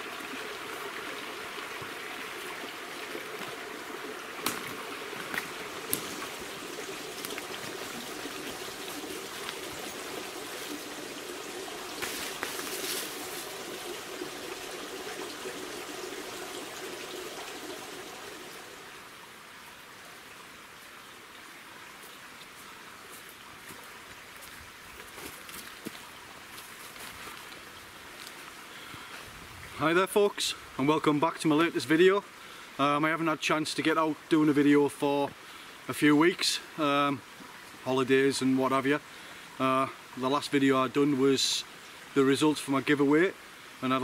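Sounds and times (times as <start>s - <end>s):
stream running: 0.0s - 44.0s.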